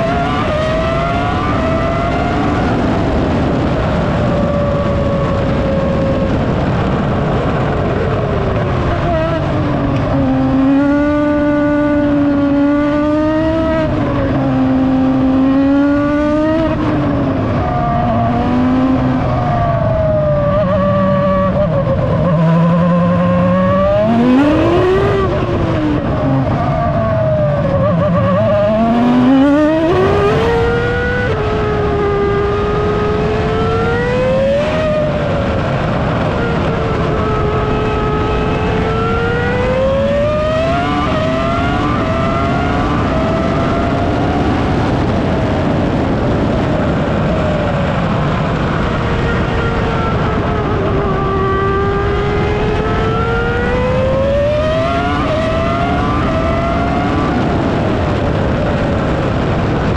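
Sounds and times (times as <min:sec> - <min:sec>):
racing car engine at speed: 0:00.0 - 0:59.9.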